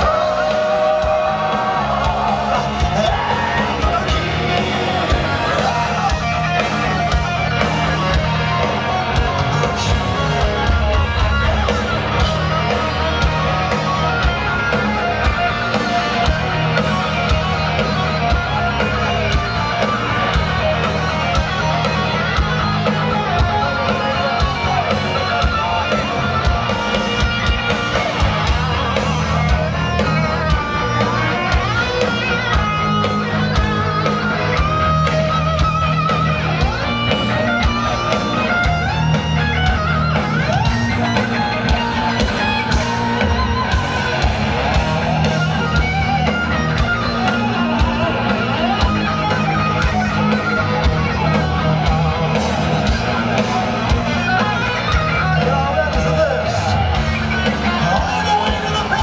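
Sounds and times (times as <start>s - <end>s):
heavy metal band playing live: 0.0s - 59.0s
lead guitar melody: 0.0s - 59.0s.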